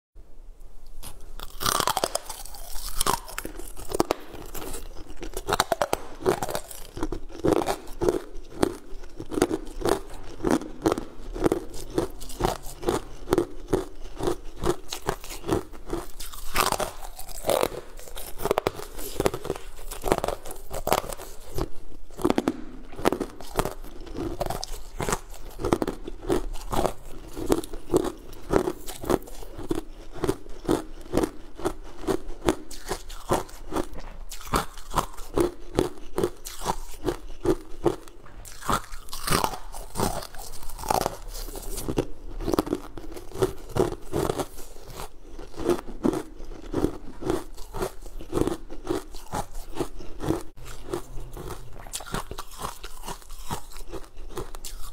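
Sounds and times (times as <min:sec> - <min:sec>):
crunching and chewing candy: 0:00.8 - 0:54.9.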